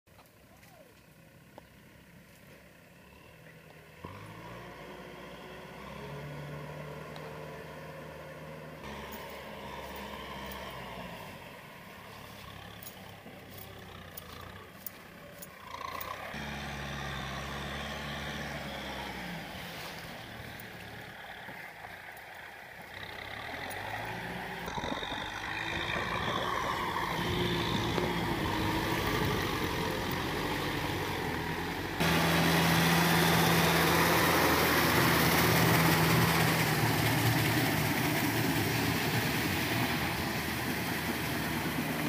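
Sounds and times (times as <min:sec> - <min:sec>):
tractor diesel engine under load: 0:00.1 - 0:42.0.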